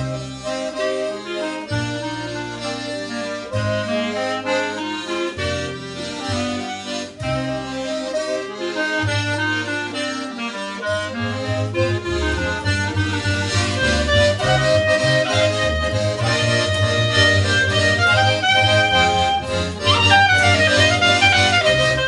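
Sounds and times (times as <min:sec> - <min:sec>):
accordion melody: 0:00.0 - 0:22.0
bass line: 0:00.0 - 0:22.0
guitar: 0:00.0 - 0:22.0.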